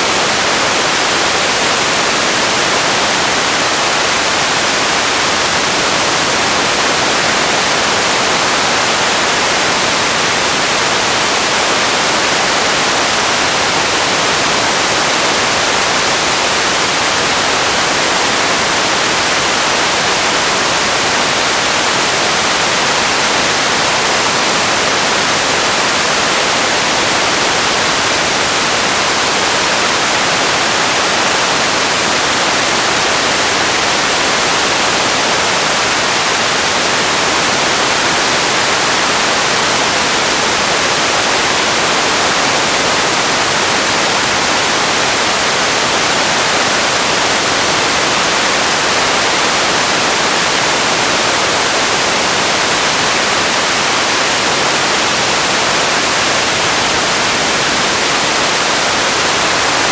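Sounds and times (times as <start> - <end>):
steady static-like hiss: 0.0 - 59.9.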